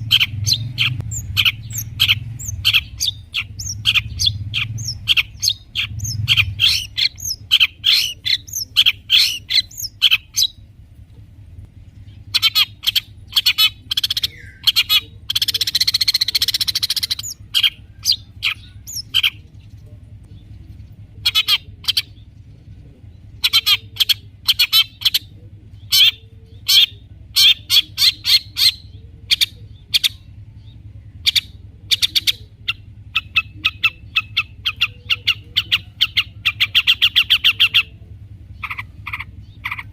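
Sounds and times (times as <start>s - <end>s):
harsh rasping bird call: 0.0s - 10.6s, 12.1s - 19.4s, 23.3s - 39.9s
bird singing sharp chattering notes: 0.0s - 10.8s, 11.8s - 39.9s.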